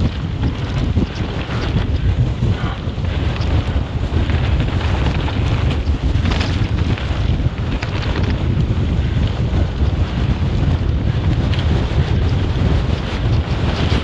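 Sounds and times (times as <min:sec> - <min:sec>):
bike clicks and rattles: 0:00.0 - 0:14.0
tyre noise on dirt trail: 0:00.0 - 0:14.0
wind buffeting microphone: 0:00.0 - 0:14.0.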